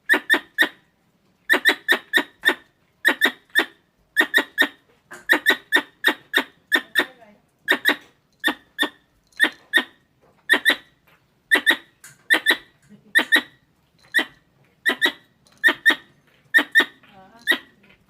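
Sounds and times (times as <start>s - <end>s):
squirrel chucking calls: 0.0s - 0.9s, 1.5s - 18.0s.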